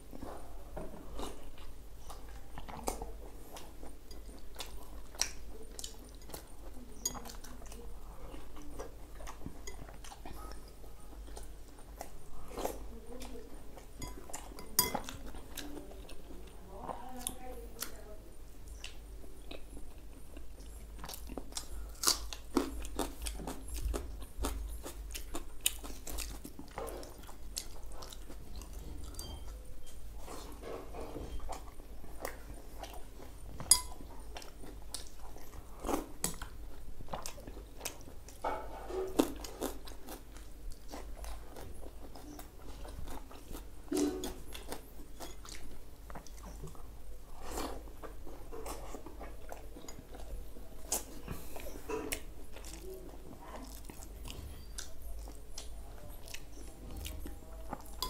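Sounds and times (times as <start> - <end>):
man chewing with wet mouth clicks: 1.2 - 16.6, 18.6 - 58.0.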